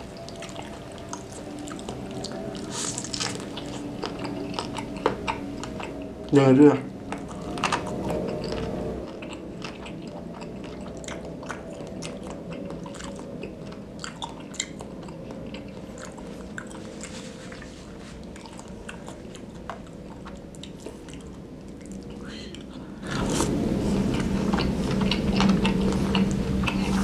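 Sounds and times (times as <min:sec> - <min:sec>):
person chewing food: 0:00.0 - 0:06.4, 0:07.0 - 0:27.0.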